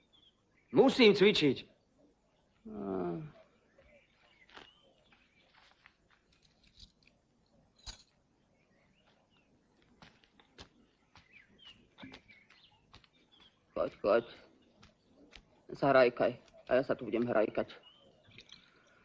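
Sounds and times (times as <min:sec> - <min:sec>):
faint high bird chirps: 0:00.0 - 0:19.0.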